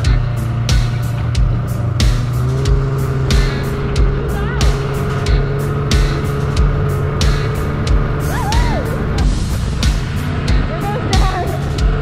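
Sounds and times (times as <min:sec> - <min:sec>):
background music: 0:00.0 - 0:12.0
snowmobile engine running: 0:00.0 - 0:12.0.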